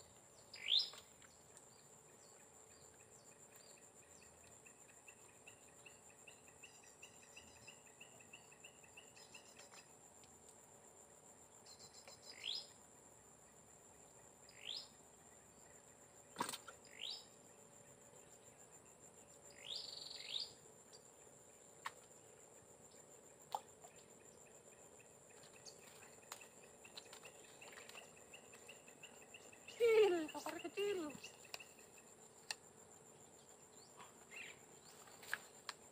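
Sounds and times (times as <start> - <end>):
high insect drone: 0.0 - 35.9.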